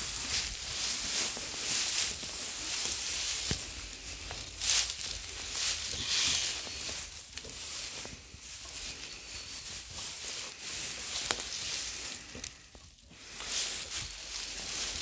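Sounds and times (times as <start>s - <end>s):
straw rustling under feet: 0.0s - 15.0s.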